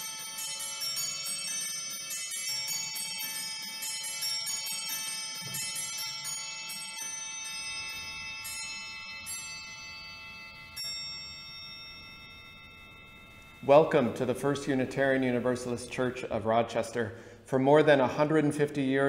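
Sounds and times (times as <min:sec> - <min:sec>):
chimes ringing: 0:00.0 - 0:16.4.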